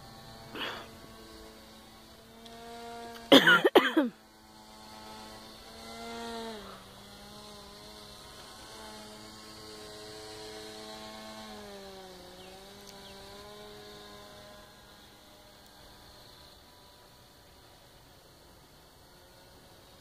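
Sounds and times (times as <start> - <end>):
propeller motor buzzing hum: 0.0 - 20.0.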